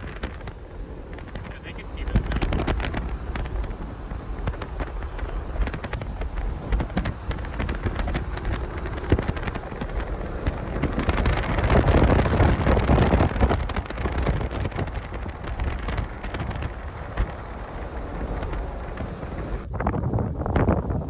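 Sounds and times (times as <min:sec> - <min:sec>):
sharp ticks: 0:00.0 - 0:19.7
strong wind buffeting microphone: 0:00.0 - 0:21.0.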